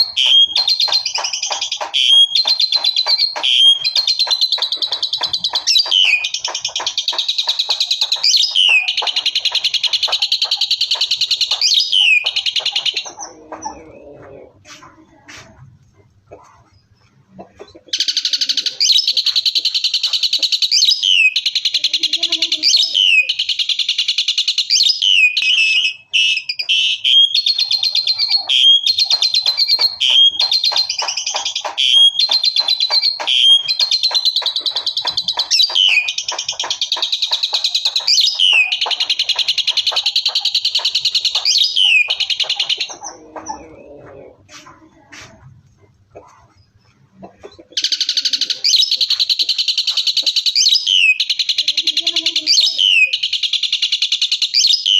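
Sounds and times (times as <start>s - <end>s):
starling singing: 0.0s - 15.5s, 17.7s - 45.4s, 47.4s - 53.9s.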